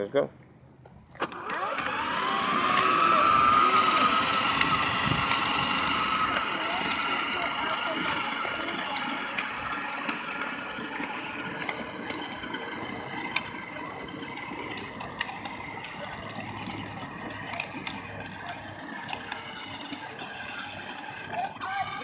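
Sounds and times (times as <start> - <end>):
vehicle motor running: 0.7 - 22.0
wheels rolling over asphalt: 0.8 - 22.0.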